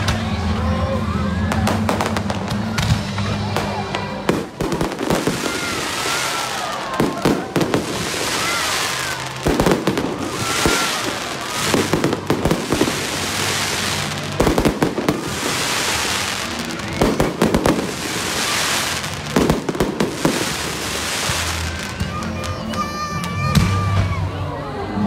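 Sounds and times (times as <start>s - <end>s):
fireworks bangs and cracks: 0.0s - 0.7s, 1.4s - 24.3s
fireworks crackling hiss: 1.6s - 22.8s.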